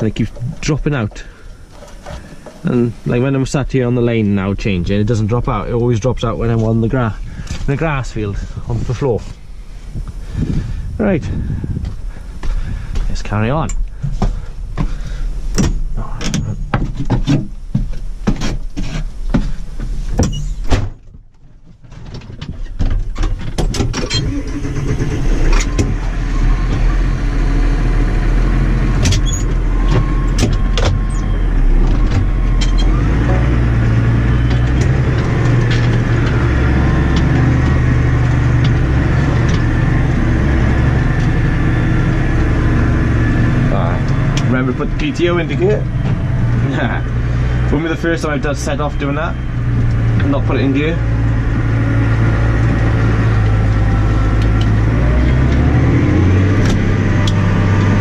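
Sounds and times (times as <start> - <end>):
engine knocks and clatters: 0.0 - 2.9, 3.5 - 58.0
tractor diesel engine: 0.0 - 16.8, 23.1 - 58.0.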